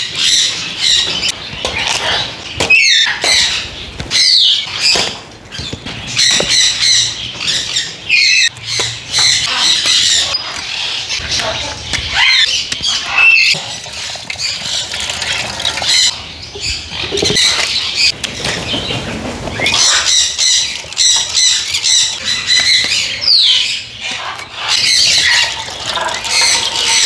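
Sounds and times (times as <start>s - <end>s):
parrots squawking and screeching: 0.0s - 18.6s, 19.4s - 27.0s.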